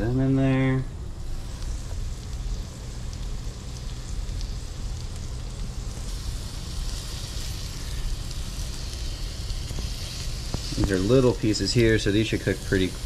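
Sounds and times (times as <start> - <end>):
steady low hum: 0.0 - 13.0
food sizzling in butter: 1.2 - 13.0.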